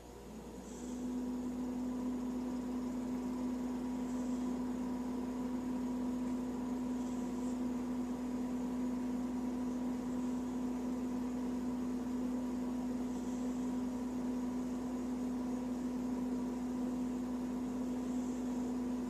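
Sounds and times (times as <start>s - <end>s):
machine hum: 0.0s - 19.0s
cat snoring softly: 0.2s - 19.0s.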